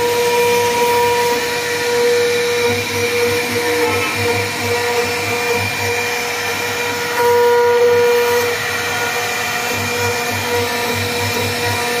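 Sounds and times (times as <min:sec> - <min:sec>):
router spindle whining: 0:00.0 - 0:12.0.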